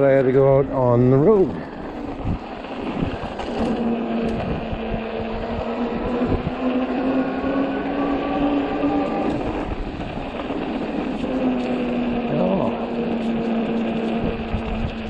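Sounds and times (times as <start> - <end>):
electric hub motor whining: 0.0 - 15.0
tyres and wind rushing: 0.0 - 15.0.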